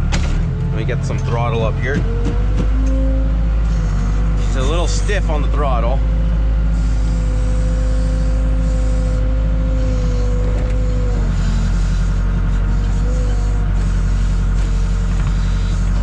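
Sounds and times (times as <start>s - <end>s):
backhoe diesel engine: 0.0s - 16.0s
steady whine: 0.0s - 16.0s.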